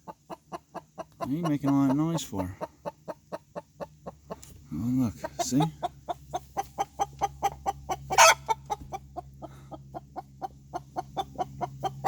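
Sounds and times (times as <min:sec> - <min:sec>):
hen clucking rapidly: 0:00.0 - 0:12.0.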